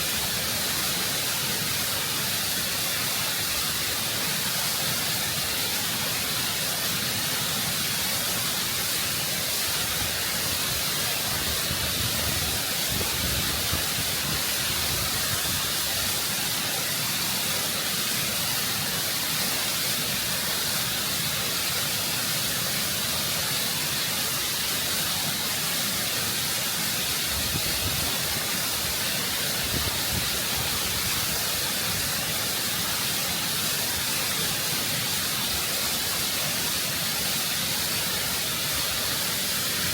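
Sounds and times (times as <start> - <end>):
waterfall roaring over rock: 0.0 - 39.9.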